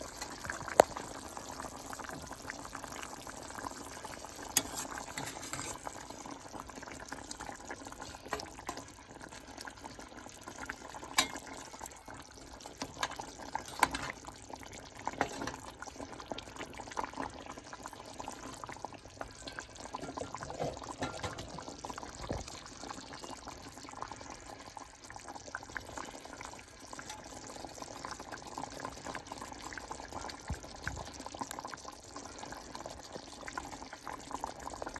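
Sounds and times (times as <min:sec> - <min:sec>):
liquid bubbling in a pan: 0:00.0 - 0:34.9.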